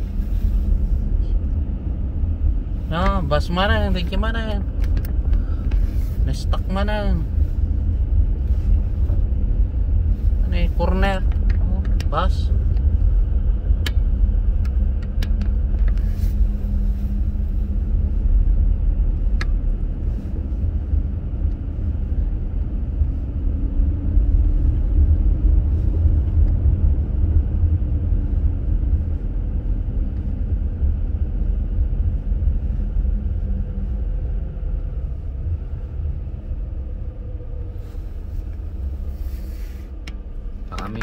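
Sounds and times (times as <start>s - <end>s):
car engine running: 0.0s - 41.0s
tyres rumbling on snowy road: 0.0s - 41.0s.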